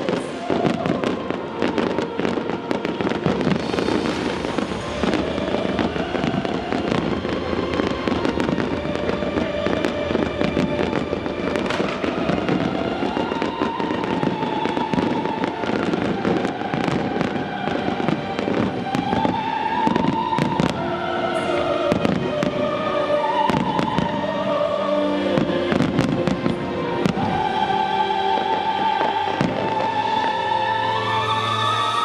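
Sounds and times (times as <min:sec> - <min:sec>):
fireworks popping and crackling: 0:00.0 - 0:22.7, 0:25.4 - 0:27.6, 0:28.3 - 0:30.4
music playing: 0:00.0 - 0:32.0.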